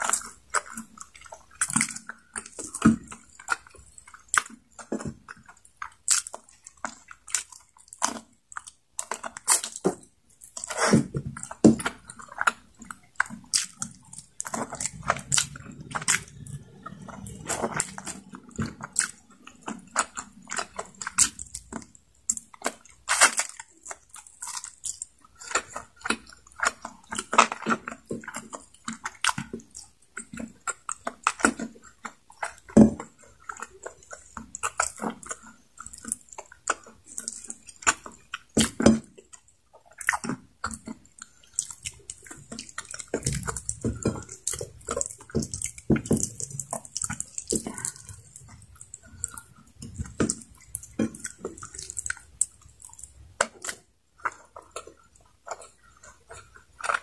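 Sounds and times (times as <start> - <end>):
chewing and mouth smacks: 0.0 - 57.0.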